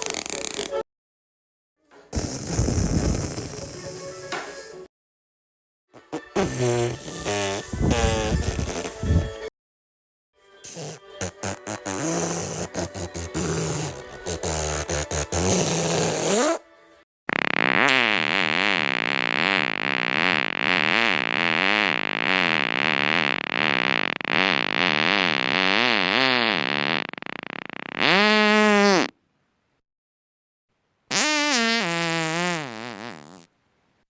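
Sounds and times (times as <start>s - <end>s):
farts: 0.0s - 0.8s, 2.2s - 4.9s, 6.0s - 9.5s, 10.7s - 16.6s, 17.3s - 29.2s, 31.1s - 33.5s.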